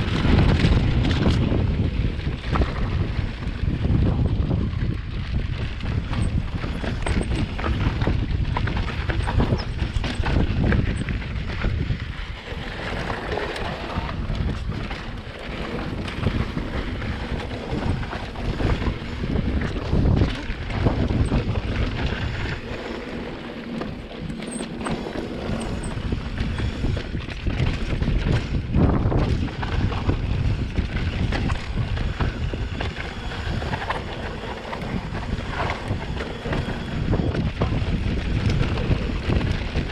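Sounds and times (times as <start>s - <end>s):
bike knocks and rattles: 0.0s - 39.9s
low rumble of bike: 0.0s - 39.9s
wind buffeting microphone: 0.0s - 39.9s.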